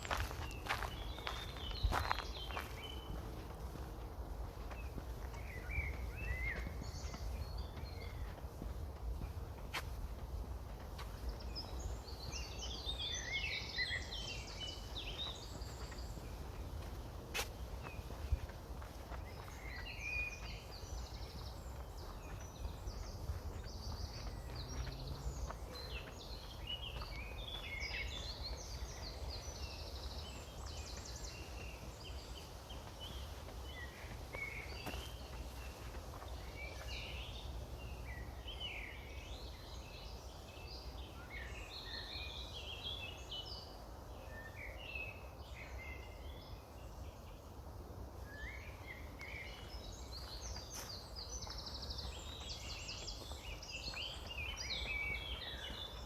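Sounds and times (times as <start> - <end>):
low rumble of wind: 0.0 - 56.0
small birds chirping and trilling: 0.0 - 56.0.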